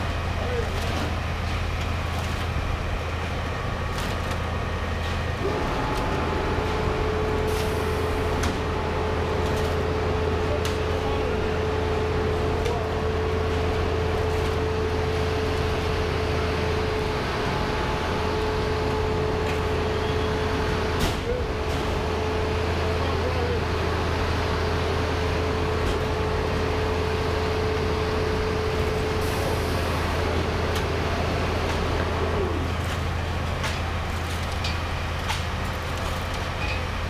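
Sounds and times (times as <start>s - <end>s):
pump engine drone: 0.0s - 37.0s.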